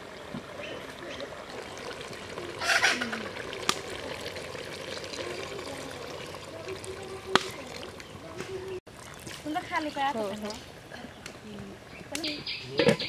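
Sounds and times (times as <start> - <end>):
water splashing into pot: 0.0 - 10.6
water pouring trickle: 0.0 - 10.8.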